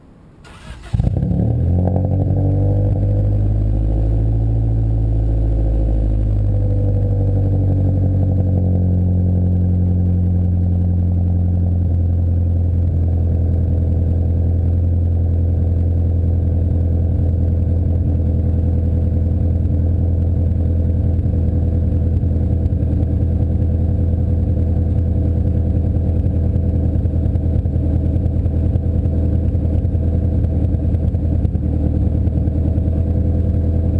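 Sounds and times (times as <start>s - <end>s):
car engine idling: 2.7s - 33.9s.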